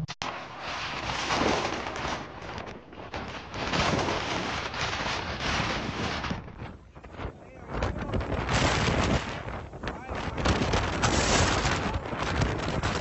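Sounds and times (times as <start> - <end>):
wind rushing: 0.0 - 13.0.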